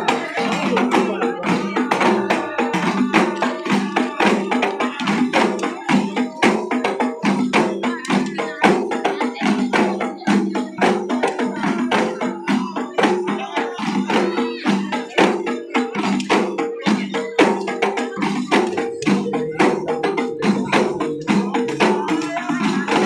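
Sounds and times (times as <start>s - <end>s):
frame drums beaten by hand: 0.0s - 23.0s
men chanting: 0.0s - 23.0s.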